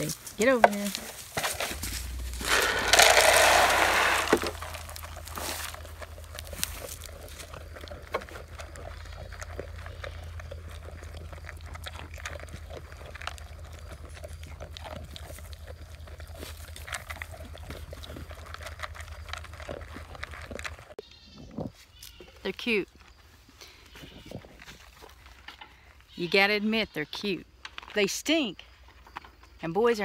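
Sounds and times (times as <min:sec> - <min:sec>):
goats crunching pellet feed: 0:00.0 - 0:30.0.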